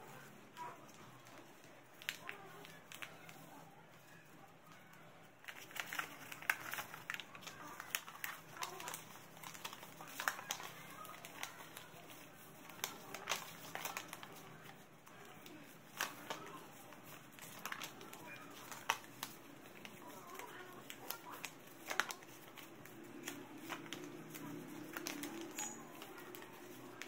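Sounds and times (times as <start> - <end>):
paper crinkling as folded: 0.0 - 27.0.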